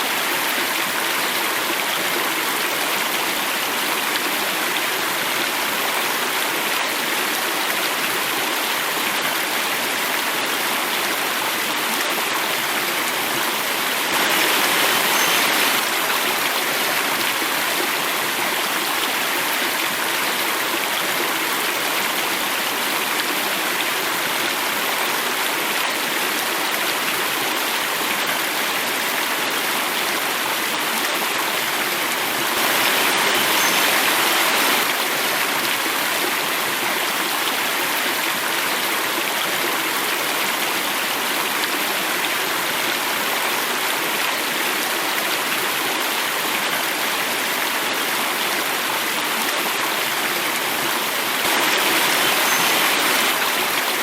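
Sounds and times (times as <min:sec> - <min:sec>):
water falling in small cascade: 0:00.0 - 0:54.0.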